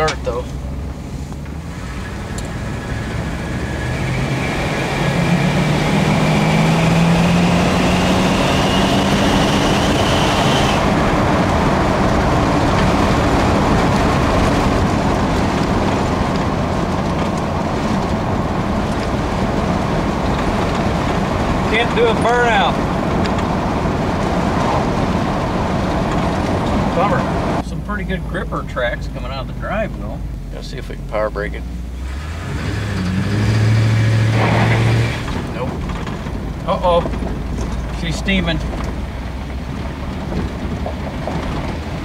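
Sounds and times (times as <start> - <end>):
car engine accelerating hard: 0.0 - 42.0
road noise: 0.0 - 42.0.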